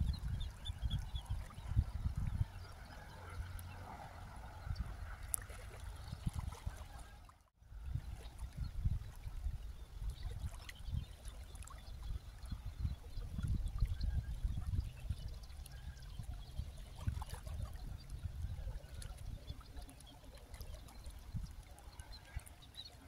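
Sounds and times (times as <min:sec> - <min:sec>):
small waves lapping: 0:00.0 - 0:09.4, 0:10.0 - 0:14.0, 0:15.2 - 0:23.0
wind rumble on microphone: 0:00.0 - 0:23.0.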